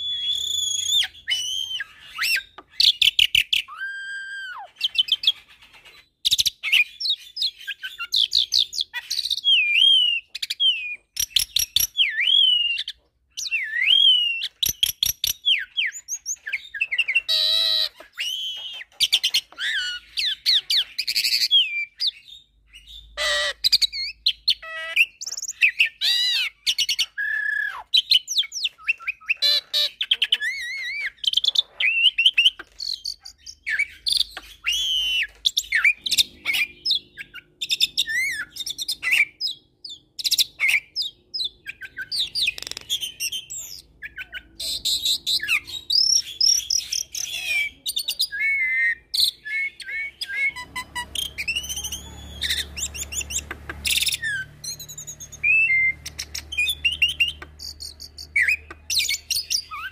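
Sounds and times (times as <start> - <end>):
bird singing whistles and chirps: 0.0 - 59.9.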